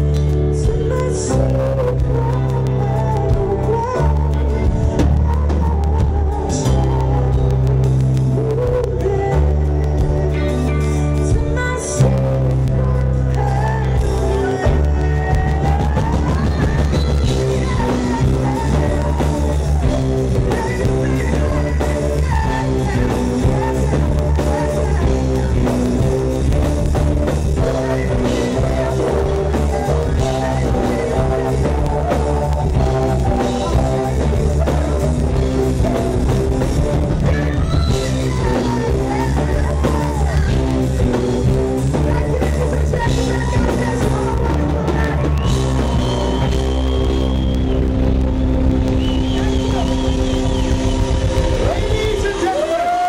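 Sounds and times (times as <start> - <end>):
woman singing: 0.0 - 46.8
heavy bass line: 0.0 - 52.8
drum kit: 0.0 - 53.0
electric guitar: 0.0 - 53.0.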